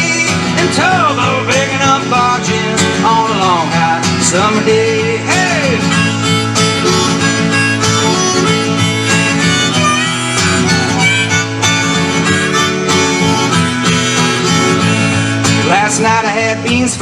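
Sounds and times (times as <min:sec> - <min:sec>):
harmonica playing lead: 0:00.0 - 0:16.3
strummed acoustic guitar: 0:00.0 - 0:17.0.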